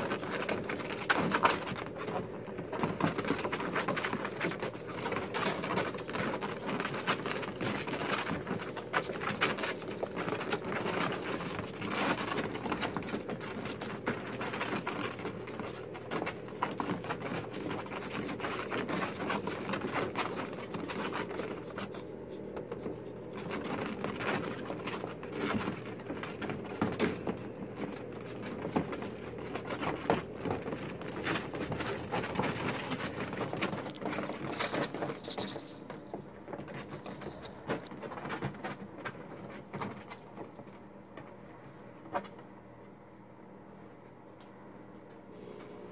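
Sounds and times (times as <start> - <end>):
bedding rustling: 0.0 - 42.6.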